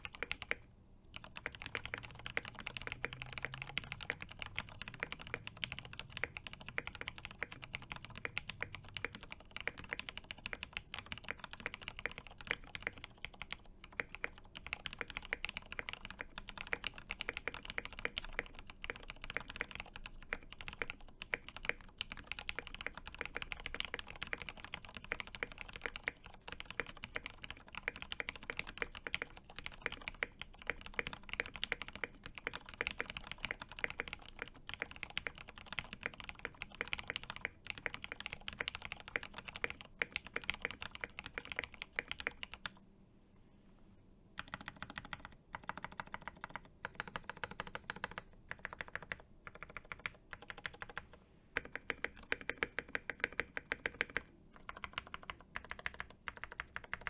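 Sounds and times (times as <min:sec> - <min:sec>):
fast typing on mechanical keyboard: 0:00.0 - 0:42.8, 0:44.4 - 0:57.0.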